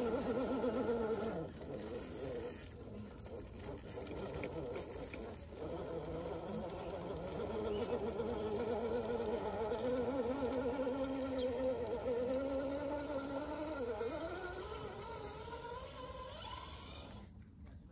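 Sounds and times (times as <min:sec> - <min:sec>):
rc car motor whining: 0:00.0 - 0:17.4.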